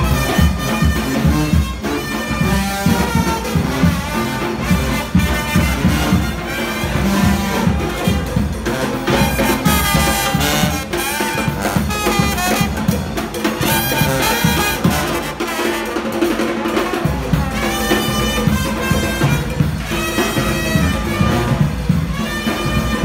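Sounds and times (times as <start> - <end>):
brass band playing jazz: 0.0 - 23.0.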